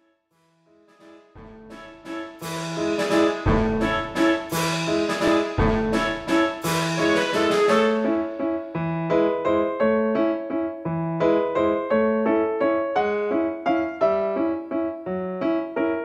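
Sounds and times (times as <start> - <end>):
keyboard playing piano-like notes: 0.8 - 16.0.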